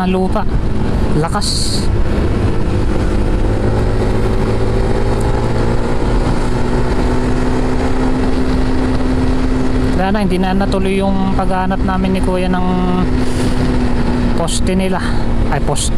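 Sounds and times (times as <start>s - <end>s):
motorcycle engine running: 0.0s - 15.9s
wind rumble on microphone: 0.0s - 15.9s.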